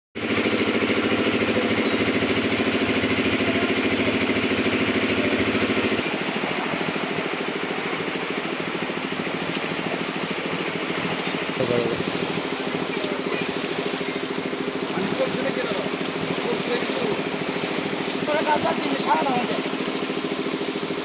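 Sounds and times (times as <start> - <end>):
small engine throbbing: 0.2 - 21.0.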